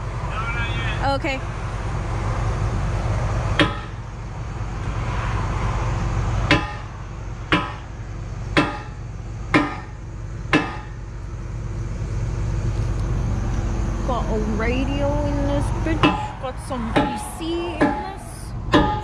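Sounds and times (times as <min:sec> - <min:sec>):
excavator engine idling: 0:00.0 - 0:05.0, 0:05.8 - 0:19.0.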